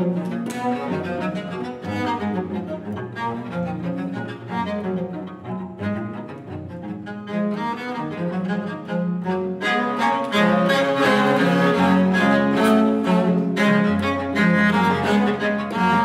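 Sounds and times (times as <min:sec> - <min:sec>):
cellos playing fast duet: 0:00.0 - 0:16.0.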